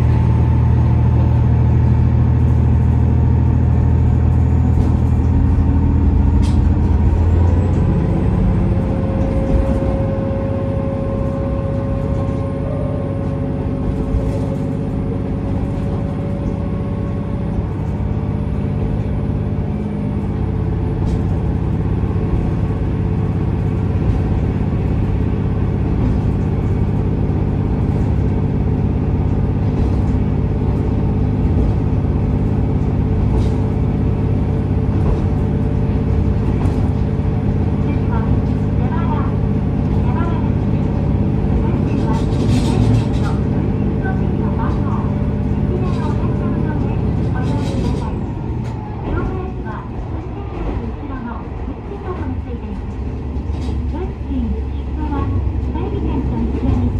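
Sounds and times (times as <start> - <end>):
diesel railcar engine: 0.0 - 56.9
train wheels on rails: 0.0 - 56.9.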